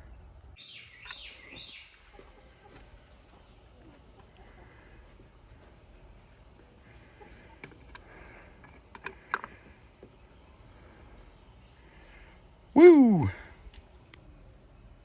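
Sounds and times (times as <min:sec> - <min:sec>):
insects: 0:00.0 - 0:15.0.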